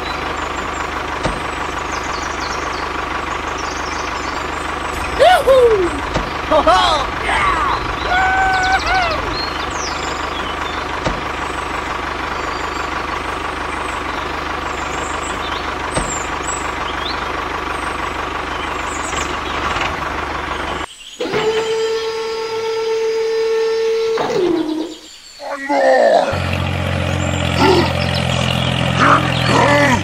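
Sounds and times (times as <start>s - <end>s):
tractor motor running: 0.0s - 22.1s, 26.3s - 30.0s.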